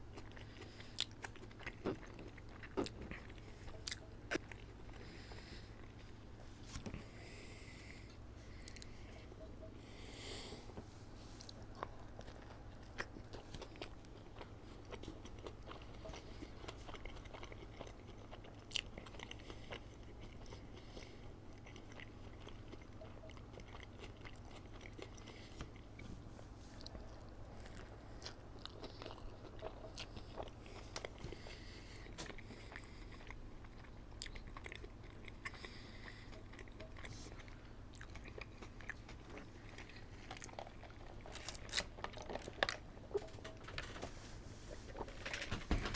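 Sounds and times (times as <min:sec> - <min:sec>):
person chewing and biting food: 0:00.0 - 0:10.2, 0:11.4 - 0:43.6
steady low hum: 0:00.0 - 0:45.9.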